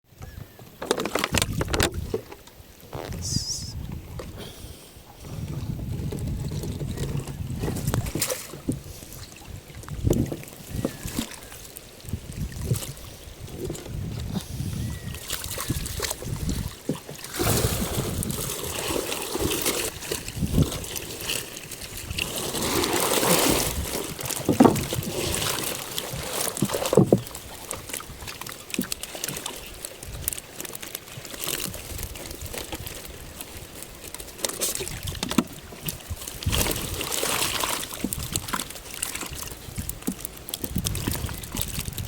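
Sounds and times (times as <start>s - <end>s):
water sloshing and splashing: 0.7s - 3.2s, 5.2s - 42.0s.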